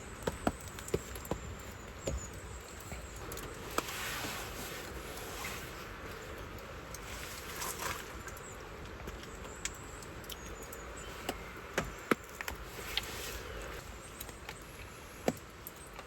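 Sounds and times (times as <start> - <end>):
raindrops tapping: 0.0 - 16.0
light rain hiss: 0.1 - 16.0.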